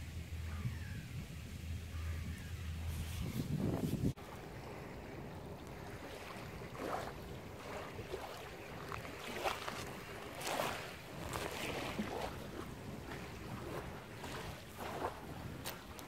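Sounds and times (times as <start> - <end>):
water lapping at shore: 0.0 - 16.0
wind on microphone: 0.0 - 16.0.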